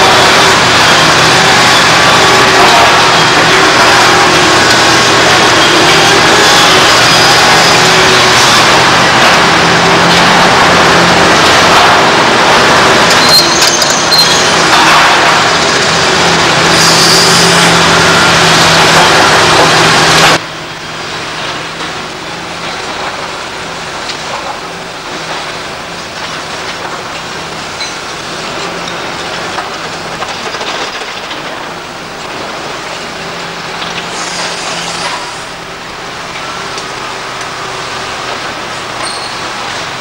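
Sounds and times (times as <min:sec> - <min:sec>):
excavator diesel engine humming: 0:00.0 - 0:40.0
skid-steer loader running: 0:00.0 - 0:40.0.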